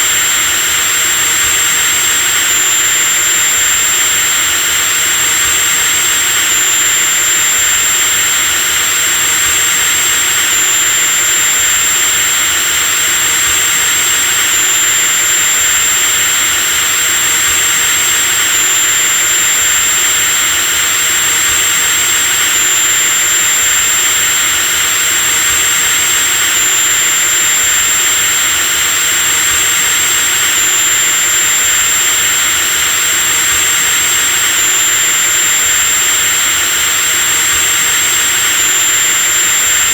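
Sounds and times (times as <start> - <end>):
power drill whining: 0.0 - 39.9.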